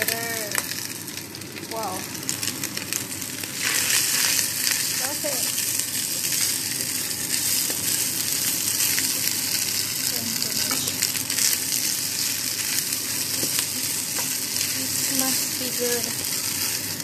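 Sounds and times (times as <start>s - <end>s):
food sizzling in pan: 0.0s - 17.0s.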